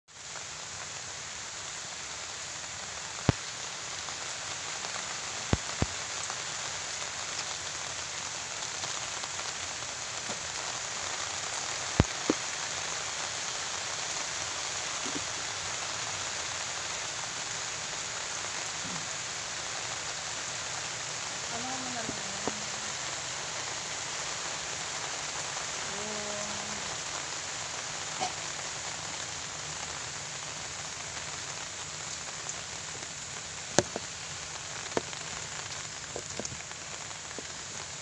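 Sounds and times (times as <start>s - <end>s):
rain pattering on surfaces: 0.1s - 38.0s.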